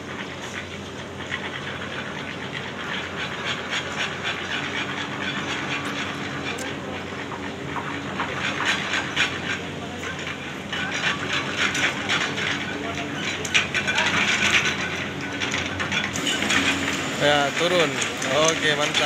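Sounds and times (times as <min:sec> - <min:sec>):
mechanical hum: 0:00.0 - 0:19.0
rapid clatter: 0:00.1 - 0:19.0.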